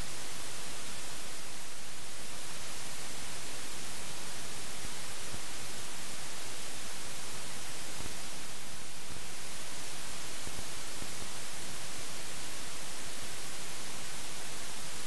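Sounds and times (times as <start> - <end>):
electronic static hiss: 0.0 - 15.0.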